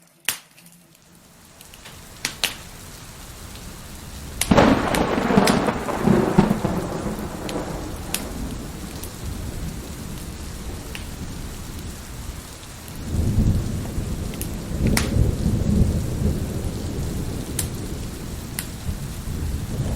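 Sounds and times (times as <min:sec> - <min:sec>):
wood fire crackling: 0:00.2 - 0:19.3
heavy rain: 0:01.0 - 0:19.9
rolling thunder: 0:01.8 - 0:19.9.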